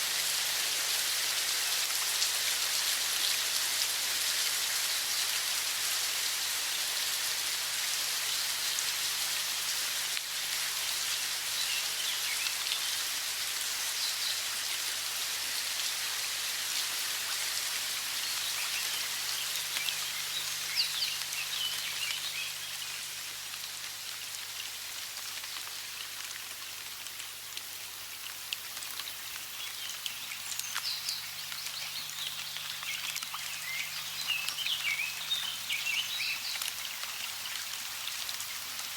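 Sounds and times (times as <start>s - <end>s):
running water hiss: 0.0s - 38.9s.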